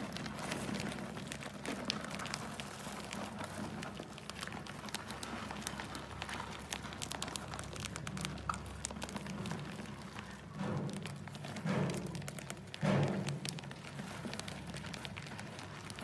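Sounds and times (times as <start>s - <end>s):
mice scratching on plastic: 0.0s - 16.0s.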